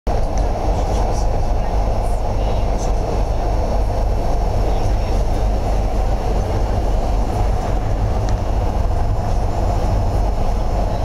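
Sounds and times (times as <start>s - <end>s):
train carriage rumble: 0.1s - 11.0s.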